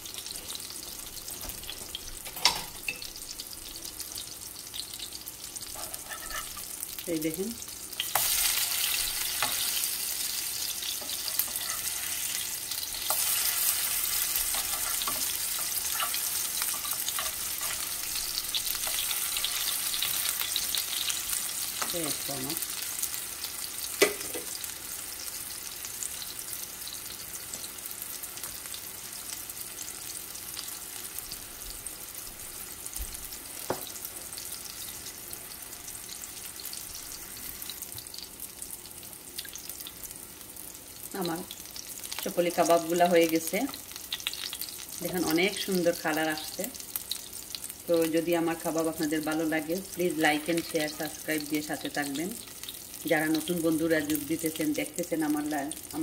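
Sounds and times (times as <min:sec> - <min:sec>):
patties sizzling in oil: 0:00.0 - 0:56.0.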